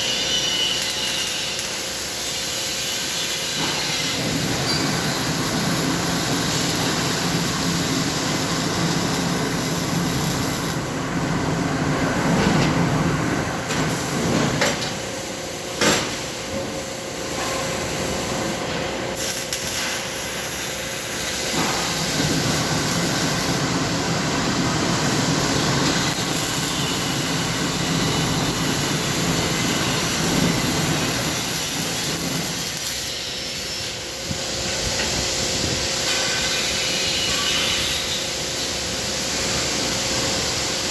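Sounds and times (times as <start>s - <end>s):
arc welding hiss and crackle: 0.0s - 11.0s, 13.6s - 40.9s
low machine hum: 0.0s - 40.9s.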